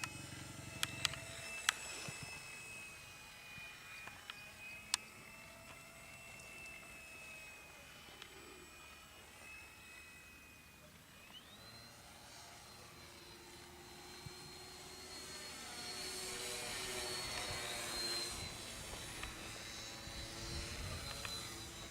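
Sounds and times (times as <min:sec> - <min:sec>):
propeller plane flying past: 0:00.0 - 0:21.9.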